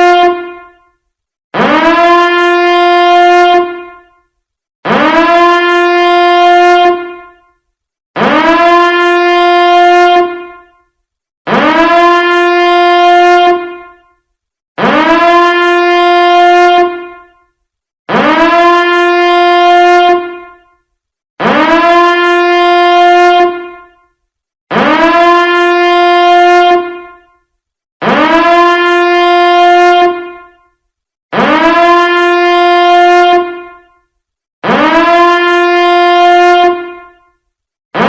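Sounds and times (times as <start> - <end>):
emergency warning siren blasts: 0.0 - 0.9, 1.6 - 7.6, 8.2 - 10.8, 11.5 - 14.2, 14.8 - 17.5, 18.1 - 20.8, 21.4 - 24.1, 24.7 - 27.4, 28.0 - 30.7, 31.3 - 34.0, 34.6 - 37.3.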